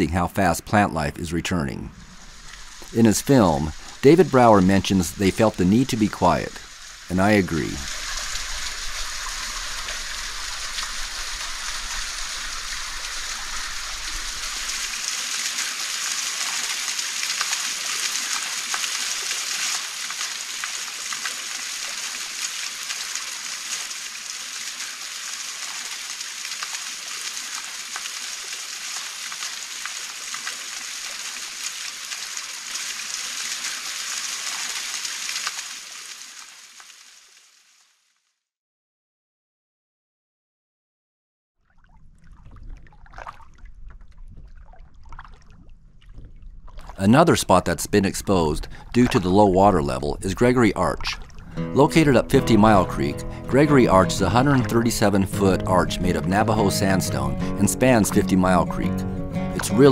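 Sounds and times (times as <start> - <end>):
water trickling and dripping: 1.9 - 38.1, 41.6 - 55.8.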